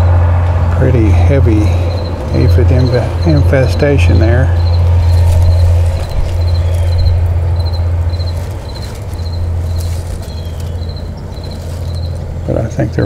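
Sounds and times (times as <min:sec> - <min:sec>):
low rumble: 0:00.0 - 0:13.0
cricket chirping: 0:01.6 - 0:13.0
dry leaves rustling: 0:01.7 - 0:12.9.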